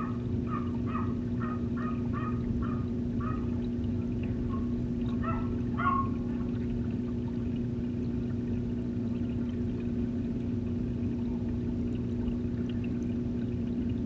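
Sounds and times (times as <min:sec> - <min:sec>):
aquarium filter water rushing: 0:00.0 - 0:14.0.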